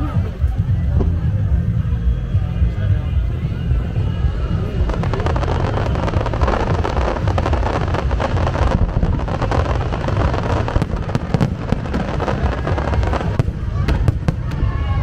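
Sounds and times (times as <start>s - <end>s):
continuous low rumble: 0.0s - 15.0s
fireworks crackling: 0.0s - 15.0s
sharp firework reports: 0.0s - 15.0s.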